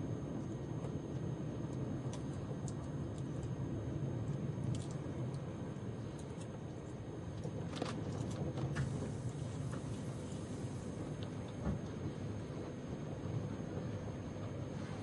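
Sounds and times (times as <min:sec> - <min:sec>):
train carriage rumbling on track: 0:00.0 - 0:15.0.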